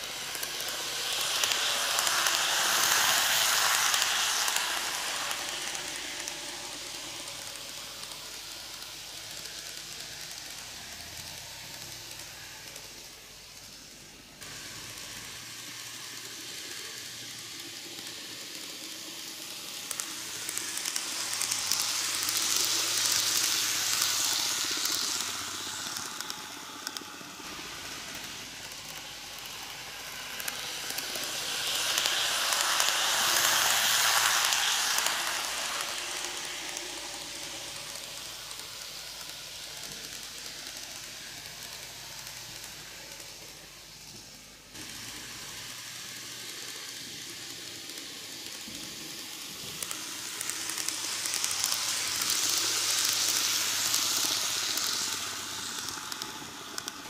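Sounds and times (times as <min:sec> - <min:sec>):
model train running on track: 0:00.0 - 0:57.0.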